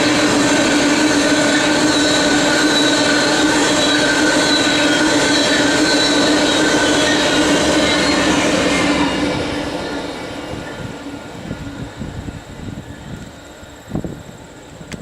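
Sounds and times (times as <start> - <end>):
steady high tones: 0.0 - 12.5
train wheels rumbling on rails: 0.0 - 15.0.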